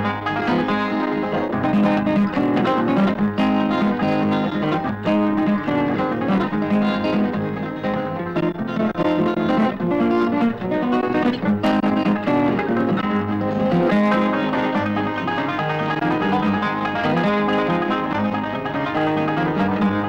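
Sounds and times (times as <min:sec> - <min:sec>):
plucked strings melody: 0:00.0 - 0:20.0.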